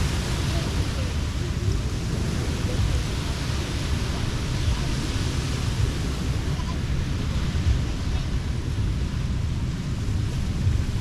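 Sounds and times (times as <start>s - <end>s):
ocean surf washing: 0.0s - 11.0s.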